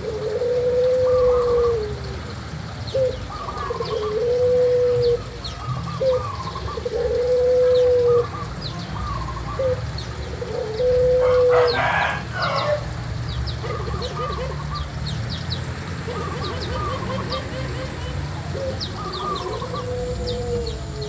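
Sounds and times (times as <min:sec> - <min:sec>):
bird hooting or cooing: 0:00.0 - 0:12.9, 0:13.5 - 0:15.0, 0:16.0 - 0:21.0
small birds chirping: 0:00.0 - 0:21.0.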